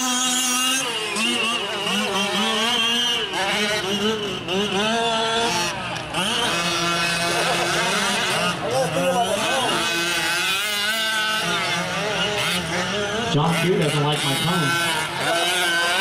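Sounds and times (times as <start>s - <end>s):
small two-stroke engines revving: 0.0s - 16.0s.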